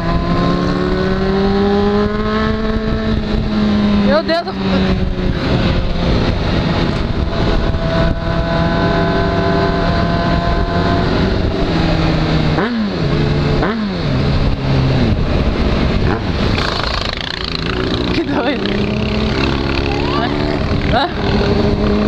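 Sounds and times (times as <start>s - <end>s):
motorcycle engine revving: 0.0s - 22.0s
wind rush: 0.0s - 22.0s.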